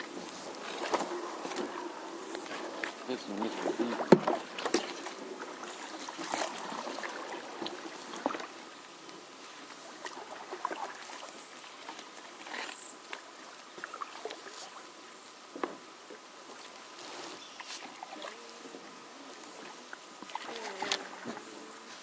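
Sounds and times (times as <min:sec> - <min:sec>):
paddle strokes splashing: 0:00.0 - 0:22.0
water trickling off paddle: 0:00.0 - 0:22.0.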